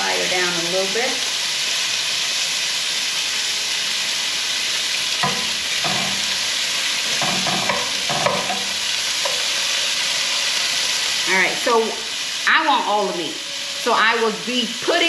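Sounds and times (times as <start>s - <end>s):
bacon sizzling in skillet: 0.0s - 15.0s.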